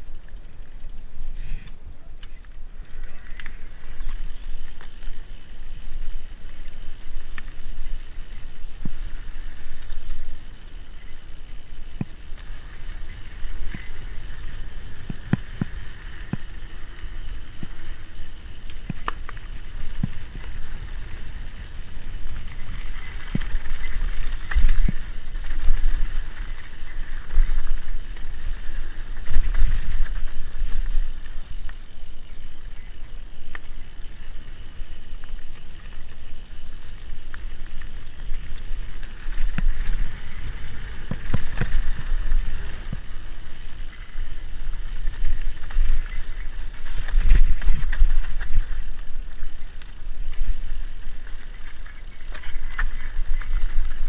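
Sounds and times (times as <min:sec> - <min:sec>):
bike knocking and rattling: 0:00.0 - 0:54.0
tyres rolling on dirt: 0:00.0 - 0:54.0.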